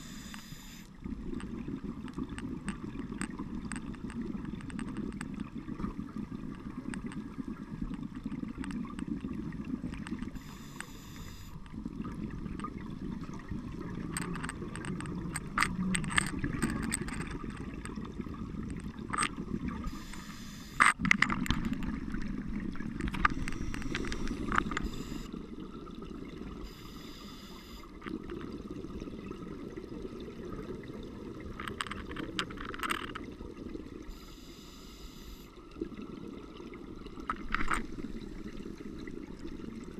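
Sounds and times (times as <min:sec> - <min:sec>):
regulator bubbles gurgling: 0:00.0 - 0:39.9.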